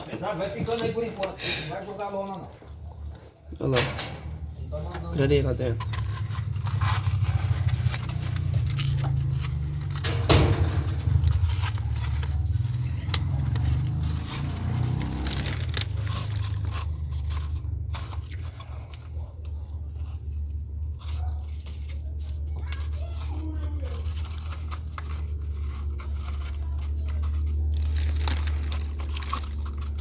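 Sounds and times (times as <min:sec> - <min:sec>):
objects scraping and clattering: 0:00.0 - 0:30.0.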